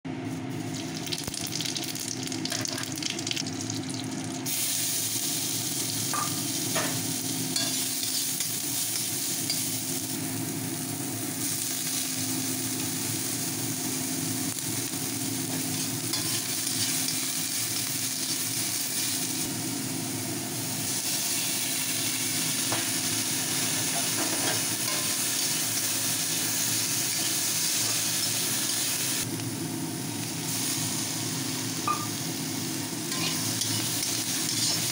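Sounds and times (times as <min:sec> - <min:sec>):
vegetables sizzling in oil: 0:00.1 - 0:34.9.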